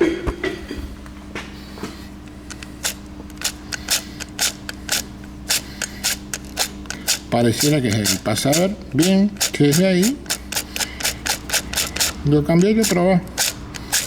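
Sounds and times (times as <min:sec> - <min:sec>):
sharp metallic clicks: 0:02.5 - 0:14.0.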